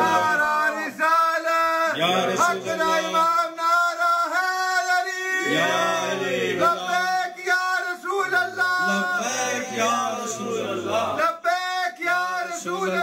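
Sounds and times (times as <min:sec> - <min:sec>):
men chanting through a microphone: 0:00.0 - 0:13.0.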